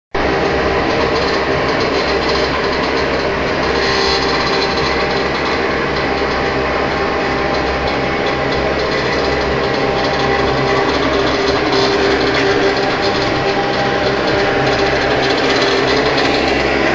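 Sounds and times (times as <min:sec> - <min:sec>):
faint steady whines: 0:00.2 - 0:16.9
oil heater running: 0:00.2 - 0:16.9.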